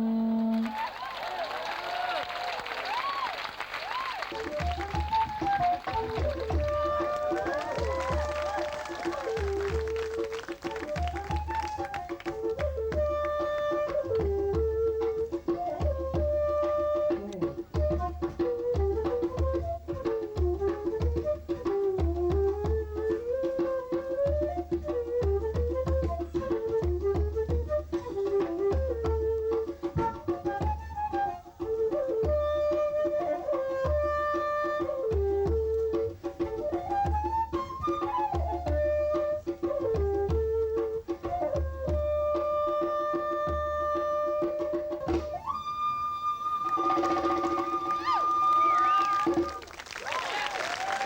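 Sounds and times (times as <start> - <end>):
bamboo flute melody: 0.0 - 51.0
drum beats: 0.4 - 51.0.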